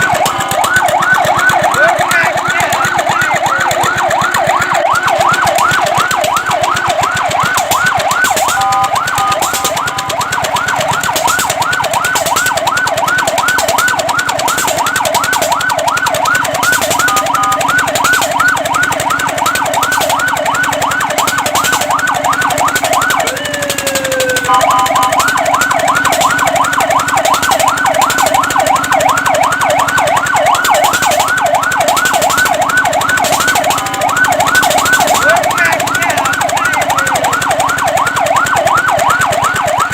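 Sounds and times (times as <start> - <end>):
fire truck siren yelping: 0.0 - 39.9
long falling siren sweep: 0.0 - 39.9
two-note siren tones: 0.0 - 39.9.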